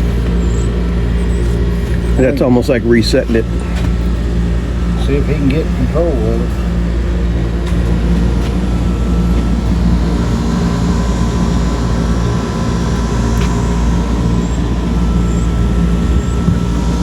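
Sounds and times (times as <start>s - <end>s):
air conditioning unit humming: 0.0s - 17.0s.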